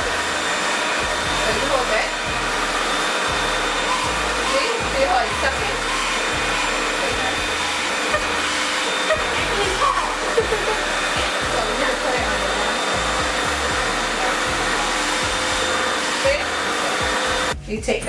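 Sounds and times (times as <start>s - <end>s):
vacuum hair dryer rushing hum: 0.0s - 17.6s.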